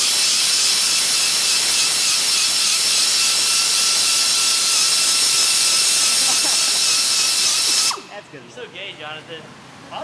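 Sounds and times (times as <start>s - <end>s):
air tool high-pitched whine: 0.0s - 8.4s.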